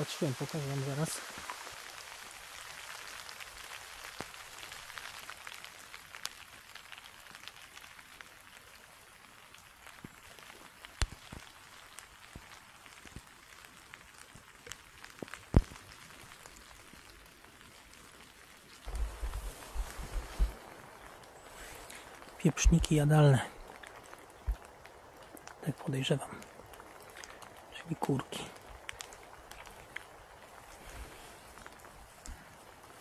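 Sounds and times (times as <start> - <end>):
light rain patter: 0.0 - 33.0.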